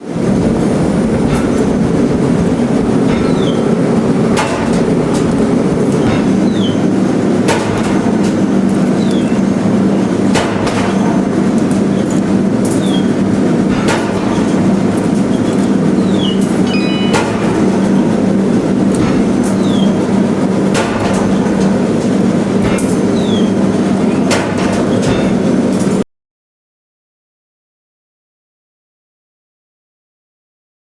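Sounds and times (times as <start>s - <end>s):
forging hammer blows on metal: 0.0s - 26.0s
machinery droning: 0.0s - 26.0s.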